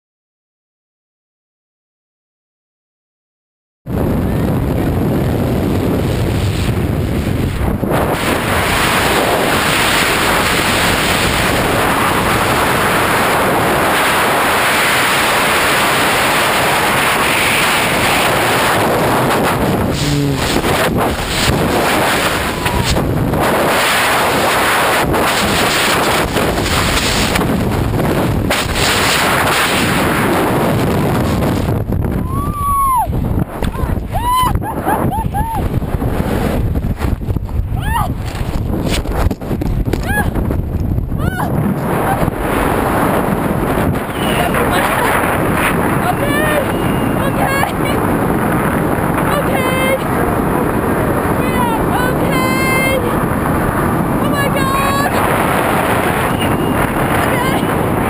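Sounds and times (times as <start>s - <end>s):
wind buffeting microphone: 3.9s - 58.0s.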